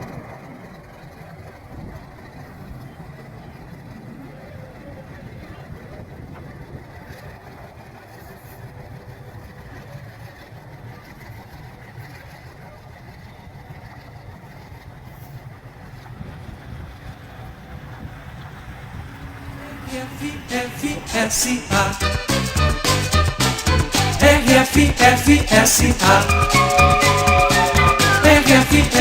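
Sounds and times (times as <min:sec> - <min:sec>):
locomotive diesel engine running: 0:00.0 - 0:29.0.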